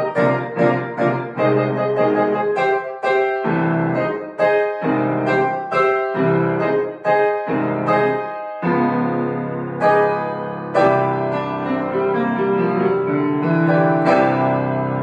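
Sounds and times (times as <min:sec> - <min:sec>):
grand piano chords: 0:00.0 - 0:15.0.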